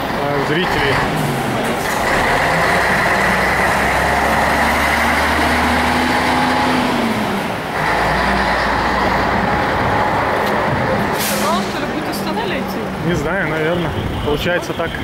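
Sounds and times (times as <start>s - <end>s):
bus diesel engine passing: 0.0s - 15.0s
street traffic: 0.0s - 15.0s.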